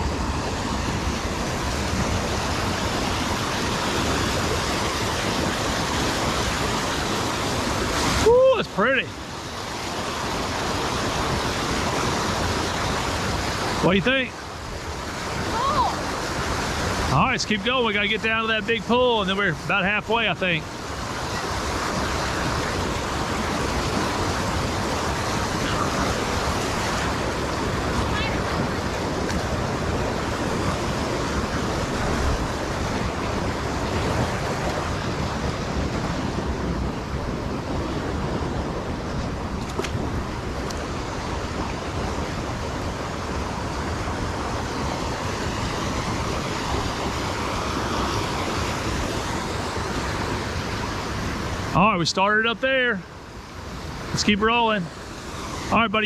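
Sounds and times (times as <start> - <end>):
river rapids rushing over rocks: 0.0 - 36.0, 38.9 - 56.0.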